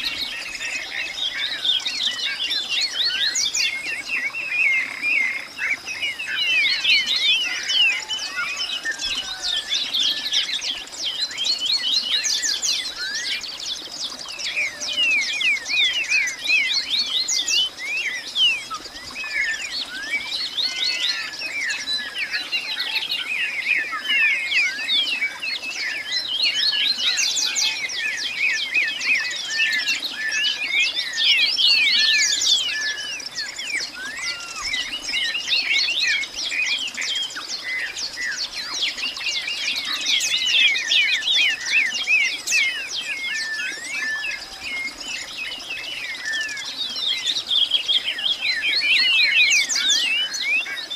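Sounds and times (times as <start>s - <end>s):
birds chirping chorus: 0.0s - 50.9s.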